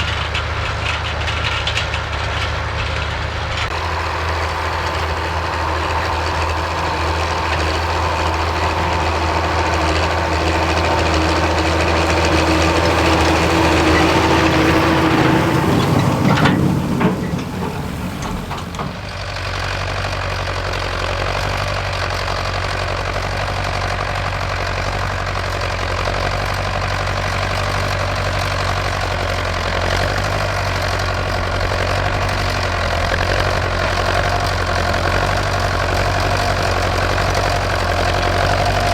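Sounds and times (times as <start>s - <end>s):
different steady engine sound: 0.0s - 38.9s
tractor engine running: 0.0s - 38.9s.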